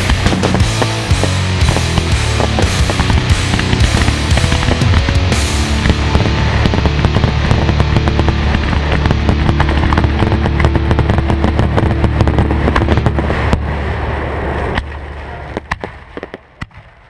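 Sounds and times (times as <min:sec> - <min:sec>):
low steady drone: 0:00.0 - 0:15.6
firework bangs: 0:00.0 - 0:17.0
fireworks crackling: 0:00.0 - 0:17.0.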